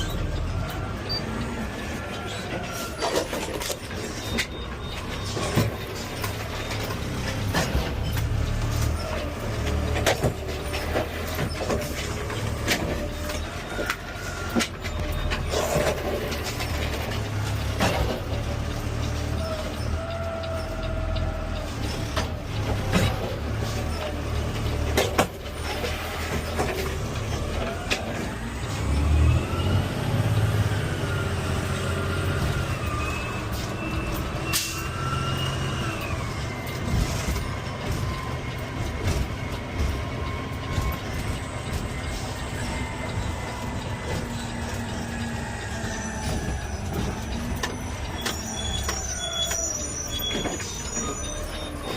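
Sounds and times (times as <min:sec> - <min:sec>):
truck engine rumbling: 0:00.0 - 0:51.9.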